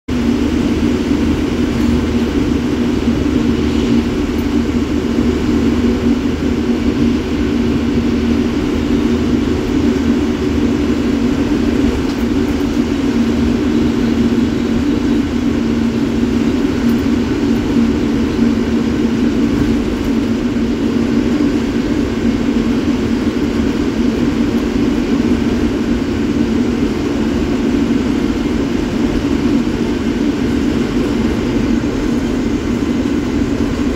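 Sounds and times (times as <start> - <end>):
bus engine drone: 0.1 - 33.9
road and wind noise: 0.1 - 33.9.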